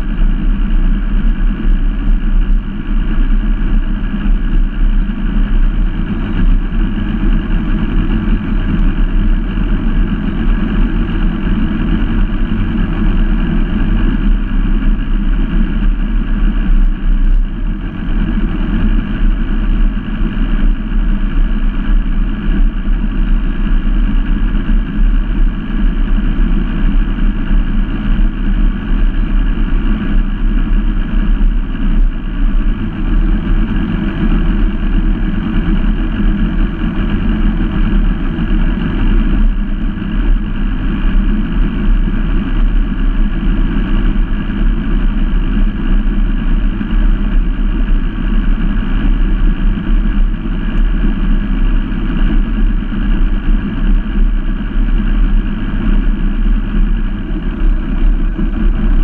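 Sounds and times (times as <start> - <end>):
outboard motor running at low speed: 0.0 - 59.0.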